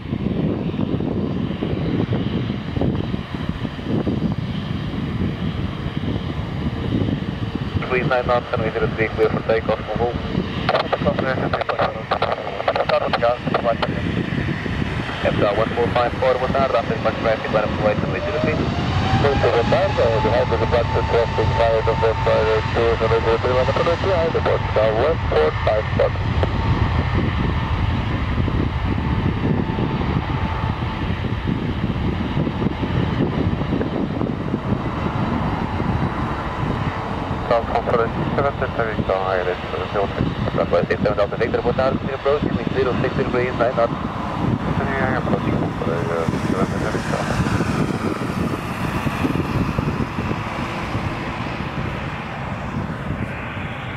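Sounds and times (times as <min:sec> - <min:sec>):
jet engines rumbling at takeoff: 0:00.0 - 0:53.9.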